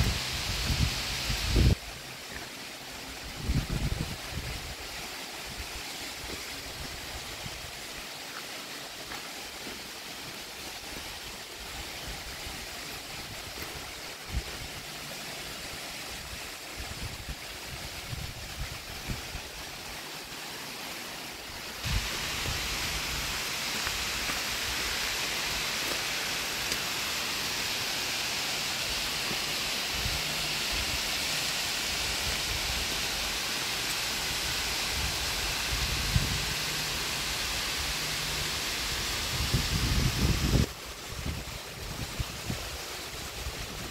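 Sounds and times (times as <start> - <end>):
waterfall rushing hiss: 0.0 - 43.9.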